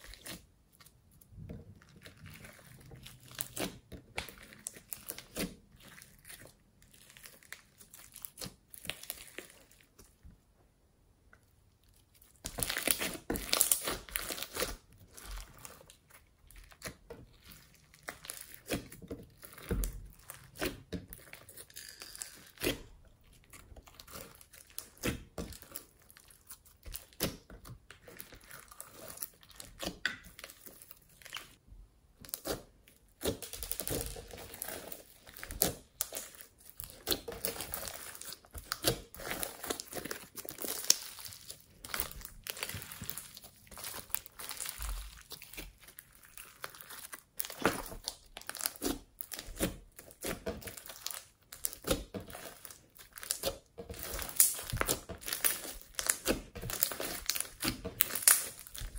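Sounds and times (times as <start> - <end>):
hands squishing slime: 0.0 - 10.3, 11.5 - 58.9.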